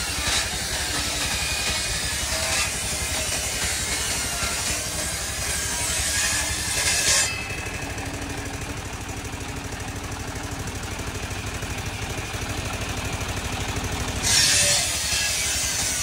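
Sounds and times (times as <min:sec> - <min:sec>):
saw hissing cutting wood: 0:00.0 - 0:16.0
sawmill engine idling: 0:00.0 - 0:16.0.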